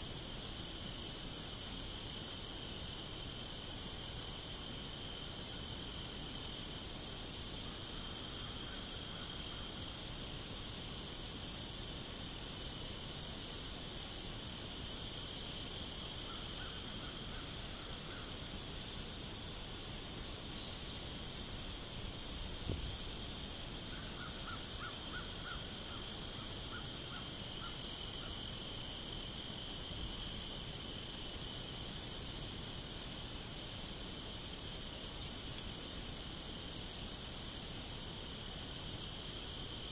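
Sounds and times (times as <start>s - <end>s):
insect chirps: 0.0s - 39.9s
insects trilling: 0.0s - 39.9s.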